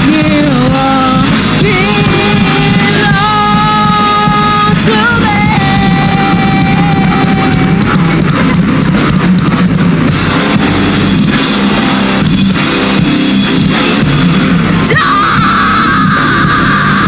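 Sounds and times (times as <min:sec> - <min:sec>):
distorted electric guitars: 0:00.0 - 0:17.0
fast drumming on drum kit: 0:00.0 - 0:17.0.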